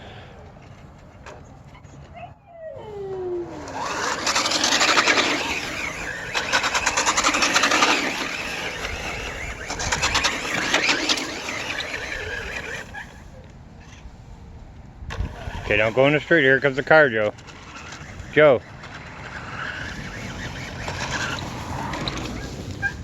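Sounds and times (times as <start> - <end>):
tyres rasping over ground: 0.0 - 23.0
rc car electric motor whining: 2.8 - 14.0, 15.1 - 23.0.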